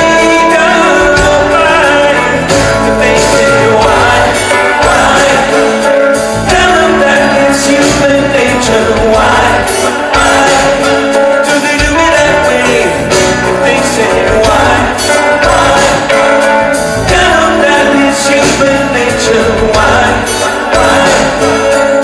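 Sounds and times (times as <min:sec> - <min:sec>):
rock band playing live: 0:00.0 - 0:22.0
sung vocals: 0:00.0 - 0:22.0.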